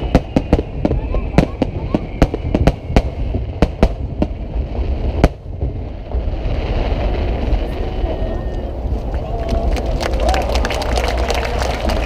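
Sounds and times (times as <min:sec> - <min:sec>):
fireworks bursting with sharp bangs: 0:00.0 - 0:12.0
low rumble: 0:00.0 - 0:12.0.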